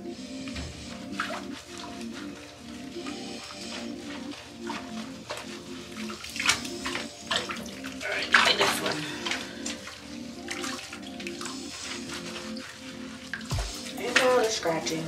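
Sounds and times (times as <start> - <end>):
water splashing in bathtub: 0.0 - 15.0.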